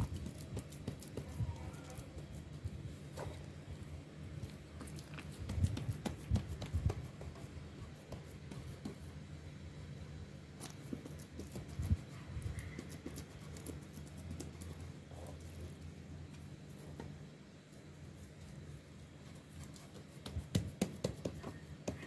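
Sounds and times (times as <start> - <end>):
hands patting and scraping dough: 0.0 - 9.4, 10.4 - 22.0
low steady hum: 0.0 - 22.0.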